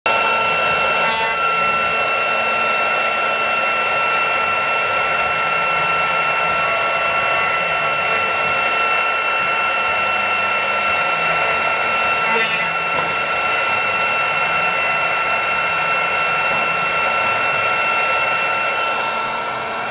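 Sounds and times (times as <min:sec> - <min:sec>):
router spindle high-pitched whine: 0:00.1 - 0:19.9.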